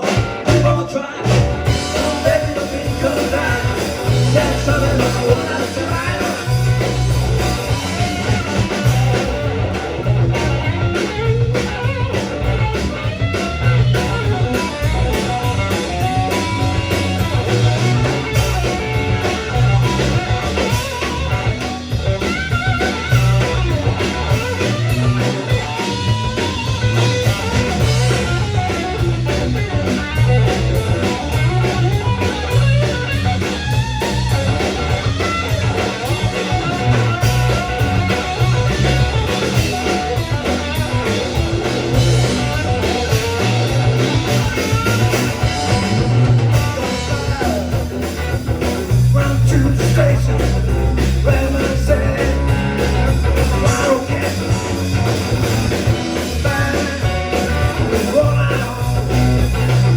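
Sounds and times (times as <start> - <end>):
bass guitar: 0.0 - 59.9
drum kit beat: 0.0 - 59.9
electric guitar: 0.0 - 59.9.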